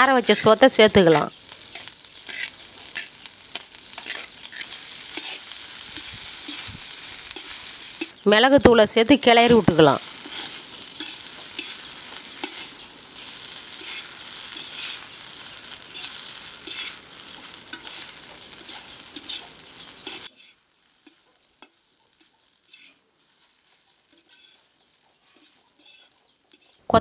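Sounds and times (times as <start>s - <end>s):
frying sizzle: 0.0s - 27.0s
spatula scraping iron pan: 1.6s - 8.2s, 10.0s - 26.8s.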